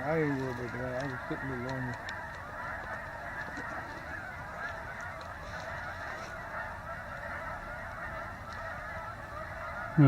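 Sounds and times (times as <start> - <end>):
flock of geese honking: 0.0 - 10.0.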